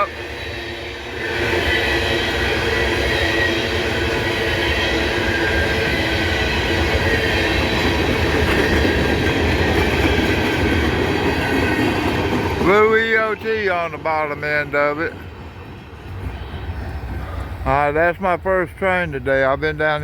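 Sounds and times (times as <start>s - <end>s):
freight train wheels rumbling on track: 0.0s - 20.0s.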